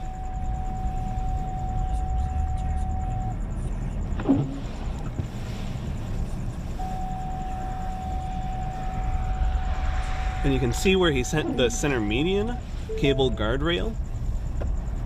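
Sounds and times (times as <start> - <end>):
thin steady tone: 0.0 - 4.6, 5.5 - 15.0
car cabin rumble: 0.0 - 15.0.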